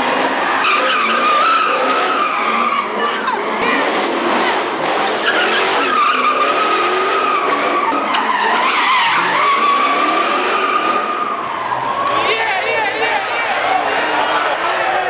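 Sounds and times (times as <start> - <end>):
car engine running hard: 0.0 - 15.0
car tires squealing: 0.1 - 15.0.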